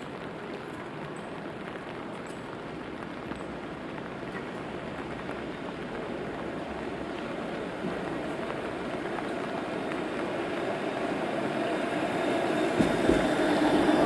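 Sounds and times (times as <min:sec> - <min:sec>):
vehicle tyres hissing on wet road: 0:00.0 - 0:14.0.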